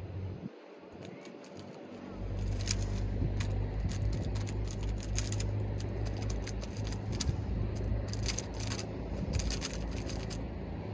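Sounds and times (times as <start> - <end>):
steady low hum: 0.0 - 10.9
plastic puzzle cube clicking: 0.9 - 10.4.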